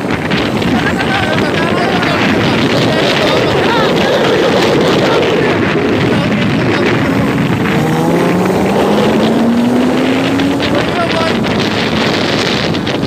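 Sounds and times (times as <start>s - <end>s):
motorcycle engine revving: 0.0s - 13.0s
road noise: 0.0s - 13.0s
wind buffeting microphone: 0.0s - 13.0s.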